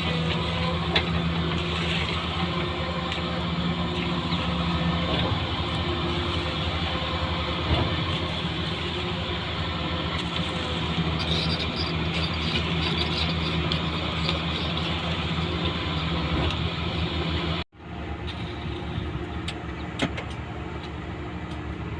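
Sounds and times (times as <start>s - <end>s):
construction vehicle engine running: 0.0s - 21.9s.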